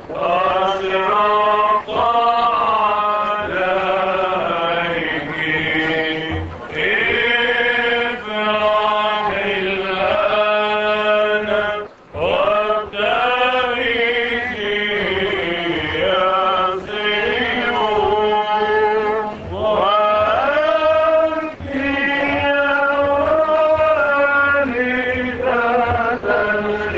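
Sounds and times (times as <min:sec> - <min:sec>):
men chanting a hymn: 0:00.0 - 0:26.9.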